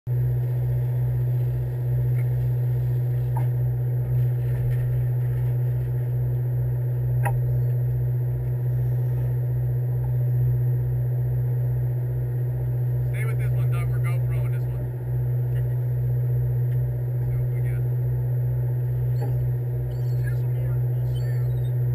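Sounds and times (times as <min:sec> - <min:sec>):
boat engine throbbing: 0:00.1 - 0:21.9.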